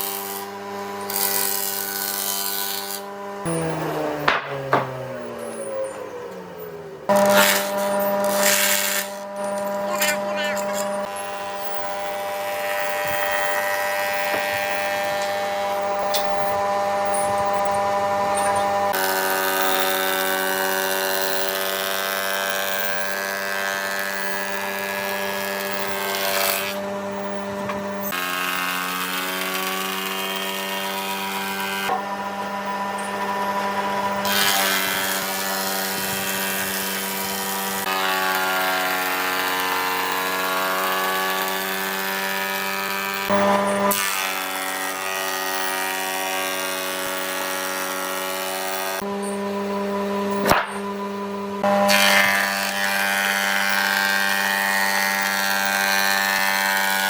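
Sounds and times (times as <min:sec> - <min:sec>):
power tool motor whine on wood: 0:00.0 - 0:57.0.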